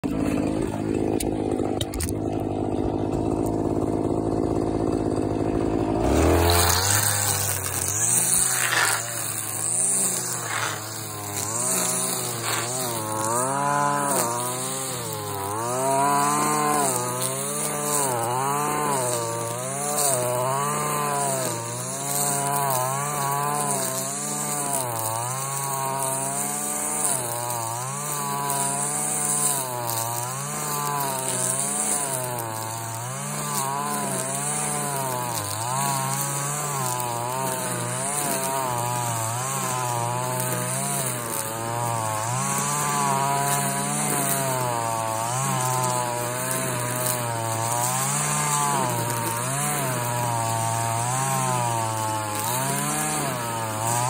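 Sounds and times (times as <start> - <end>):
string trimmer engine running: 0.0 - 54.0.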